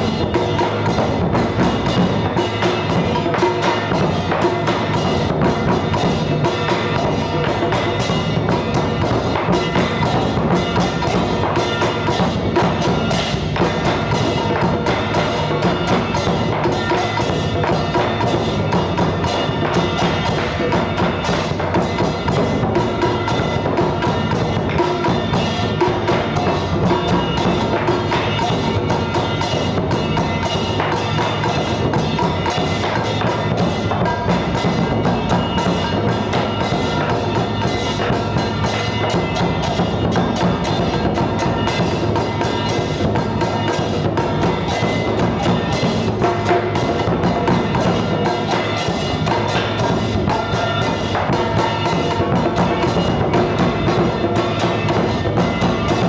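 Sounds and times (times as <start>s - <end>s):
ringing bell tones: 0.0s - 56.0s.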